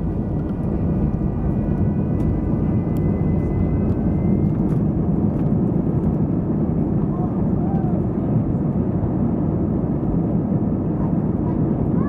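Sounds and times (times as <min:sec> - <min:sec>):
jet engine high whine: 0:00.0 - 0:12.0
jet engines low rumble: 0:00.0 - 0:12.0.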